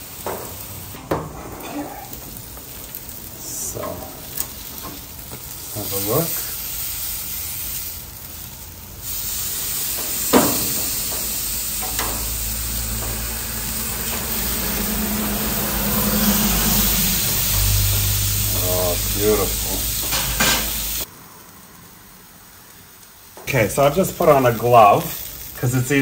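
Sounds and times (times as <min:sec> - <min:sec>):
steaks sizzling on grill: 0:00.0 - 0:26.0.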